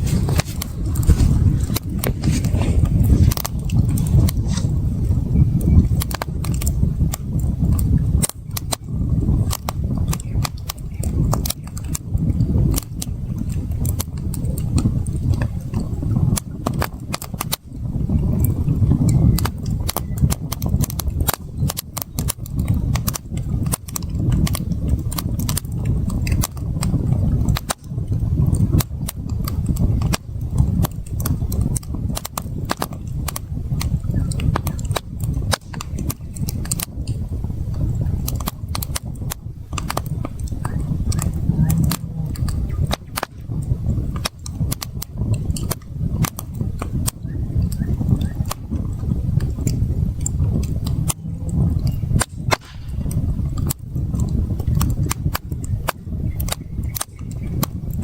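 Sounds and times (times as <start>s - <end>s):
campfire crackling and popping: 0.0s - 58.0s
low uneven rumble: 0.0s - 58.0s.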